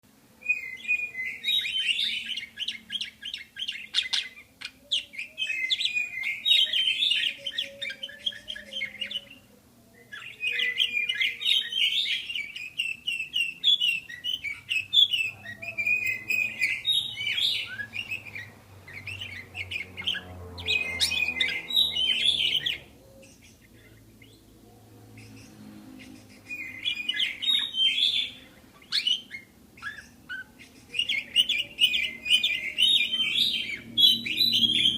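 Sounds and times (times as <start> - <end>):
budgerigars chirping and warbling: 0.4 - 34.9.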